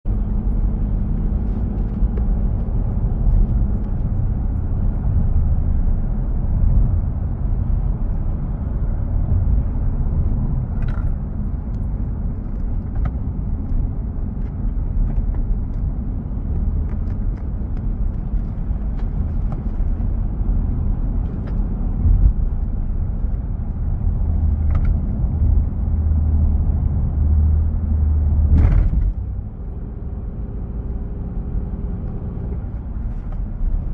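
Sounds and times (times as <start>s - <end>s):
moving car rumble: 0.0s - 33.9s.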